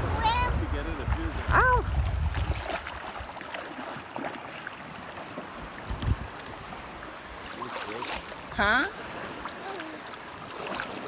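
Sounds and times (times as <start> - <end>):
sea water sloshing around wading: 0.0 - 11.0.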